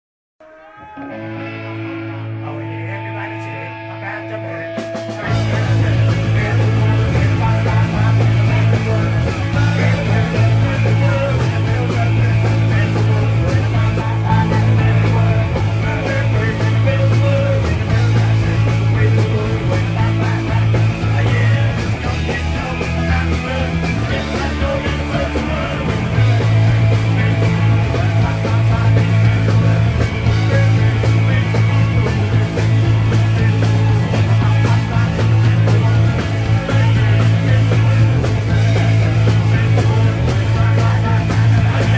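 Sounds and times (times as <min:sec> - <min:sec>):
punk rock band music: 0:00.4 - 0:41.9.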